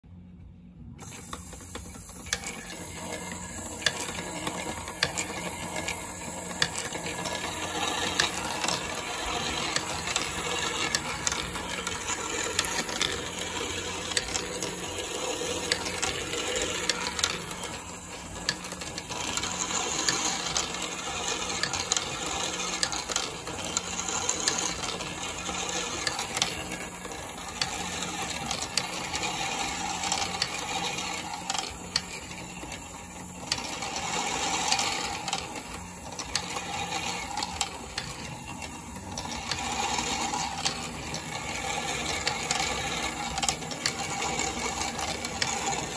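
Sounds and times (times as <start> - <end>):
steel balls rolling on plastic track: 1.0 - 45.9
balls clicking: 1.4 - 45.9.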